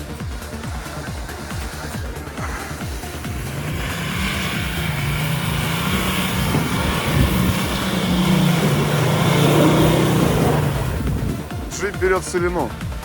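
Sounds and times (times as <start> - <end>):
car engine under load in snow: 0.0 - 13.0.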